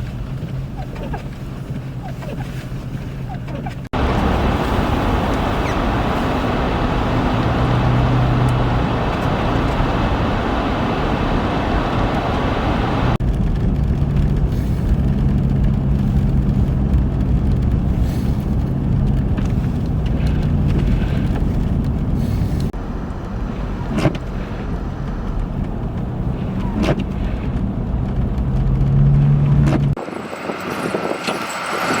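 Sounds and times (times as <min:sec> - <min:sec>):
low engine hum: 0:00.0 - 0:32.0
road and wind noise: 0:00.0 - 0:32.0.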